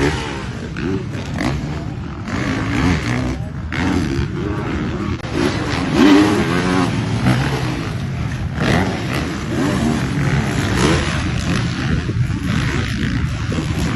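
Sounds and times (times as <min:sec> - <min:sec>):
dirt bike engines racing: 0:00.0 - 0:13.9.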